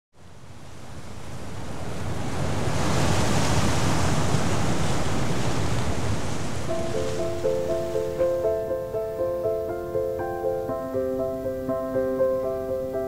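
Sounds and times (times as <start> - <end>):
ocean waves washing: 0.2 - 13.0.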